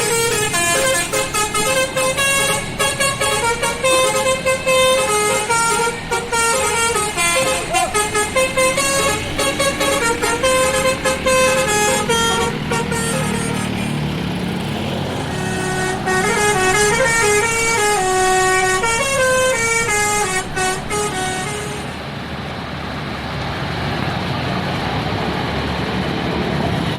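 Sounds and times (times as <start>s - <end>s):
musical bus horn tune: 0.0s - 22.0s
vehicle and road noise rumble: 0.0s - 26.9s.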